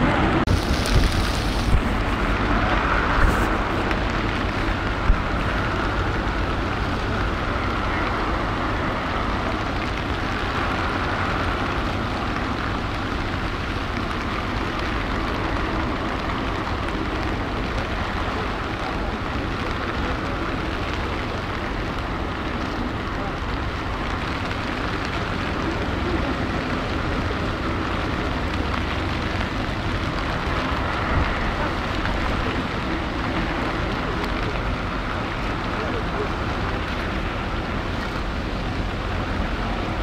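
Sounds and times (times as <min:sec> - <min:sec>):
rain in a storm: 0:00.0 - 0:40.0
wind buffeting microphone: 0:00.0 - 0:40.0.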